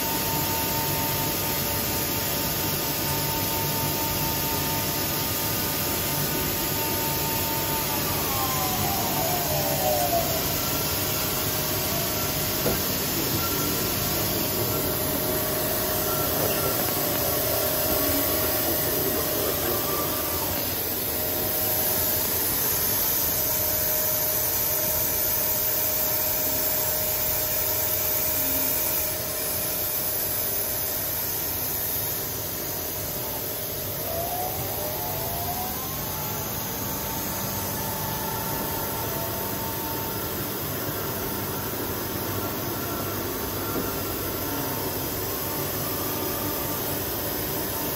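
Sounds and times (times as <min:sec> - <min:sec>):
grinder running with hiss and whine: 0:00.0 - 0:47.9.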